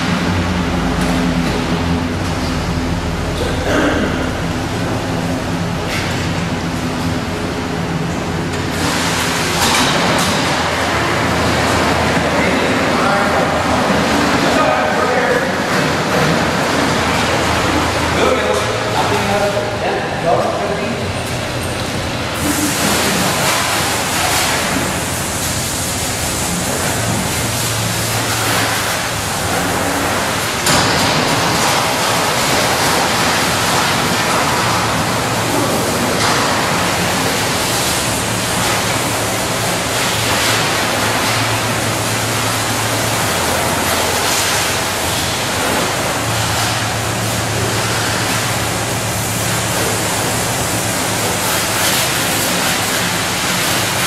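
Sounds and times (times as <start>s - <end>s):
high-pressure water spraying: 8.6s - 54.0s.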